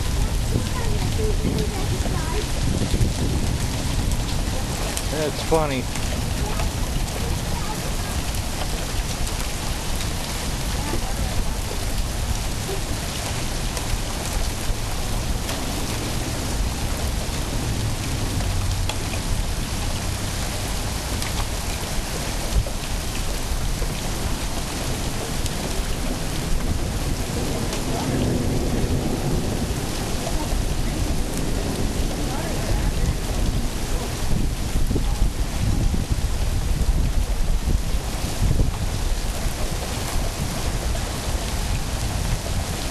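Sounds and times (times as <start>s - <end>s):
low thunder rumbling: 0.0s - 42.9s
steady rain falling: 0.0s - 42.9s.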